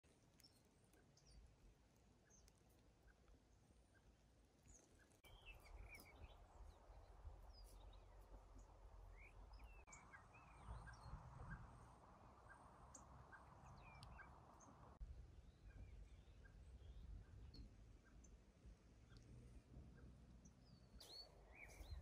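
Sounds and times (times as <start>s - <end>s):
songbirds chirping and calling: 0.1s - 22.0s.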